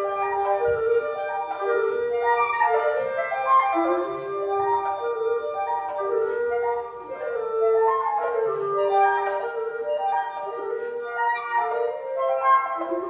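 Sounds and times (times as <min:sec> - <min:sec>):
flute and clarinets playing: 0:00.0 - 0:13.0.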